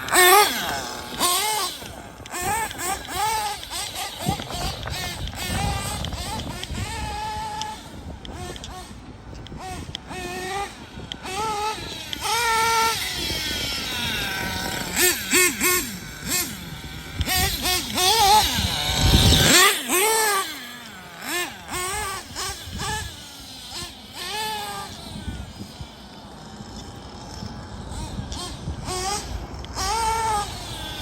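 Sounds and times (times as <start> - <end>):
small nitro engine screaming: 0.0 - 31.0.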